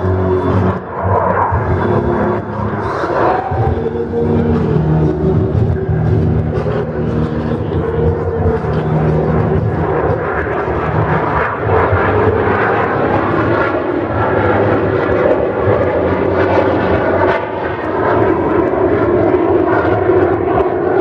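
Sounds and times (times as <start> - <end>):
jet aircraft engines roaring: 0.0 - 21.0.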